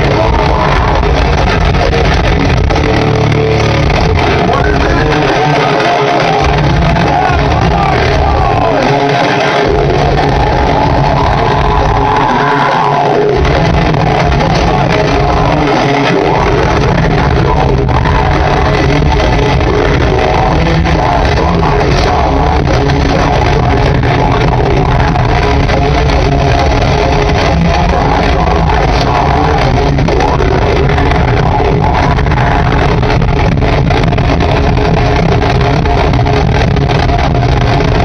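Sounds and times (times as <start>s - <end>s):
heavy metal band playing live: 0.0s - 38.0s.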